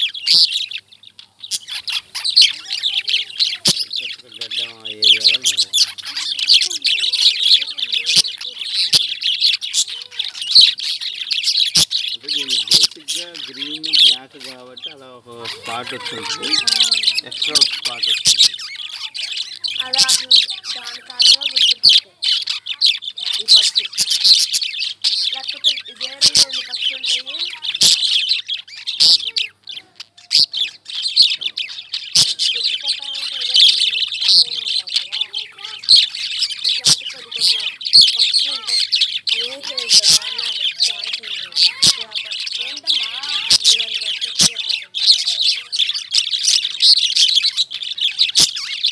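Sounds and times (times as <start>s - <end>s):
lovebirds chirping and chattering: 0.0s - 48.9s
sharp parrot calls: 0.0s - 48.9s.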